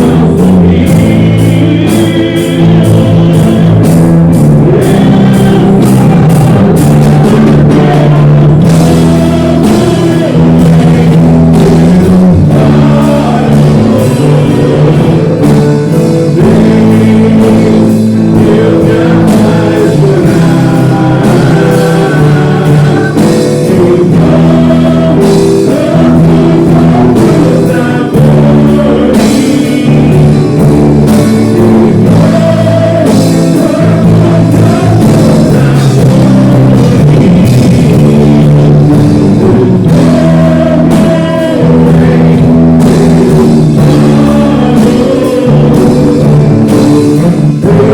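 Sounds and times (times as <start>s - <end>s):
person singing: 0.0s - 47.9s
worship band music: 0.0s - 47.9s.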